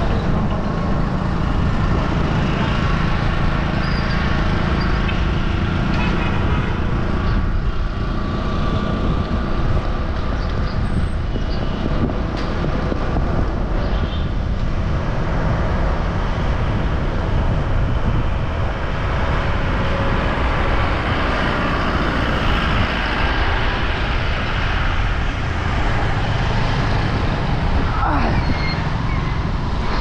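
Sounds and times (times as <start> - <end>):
passing traffic: 0.0 - 30.0
wind rush on microphone: 0.0 - 30.0.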